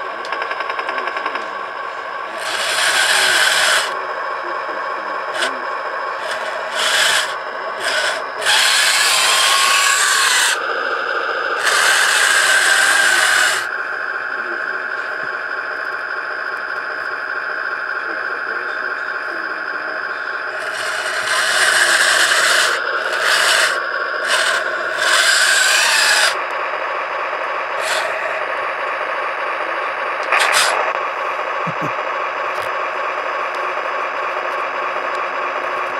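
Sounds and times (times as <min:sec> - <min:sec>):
model tank engine hum: 0:00.0 - 0:35.9
rasping drive motor: 0:00.0 - 0:35.9.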